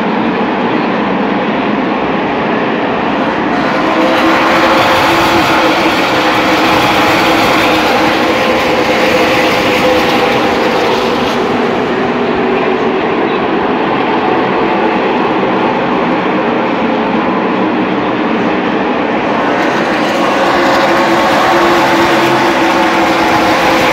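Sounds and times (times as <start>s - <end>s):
race car engines droning: 0.0s - 23.9s.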